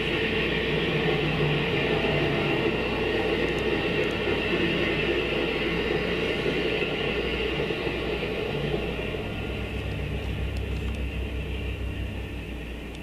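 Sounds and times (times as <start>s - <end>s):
train rolling past on tracks: 0.0s - 13.0s.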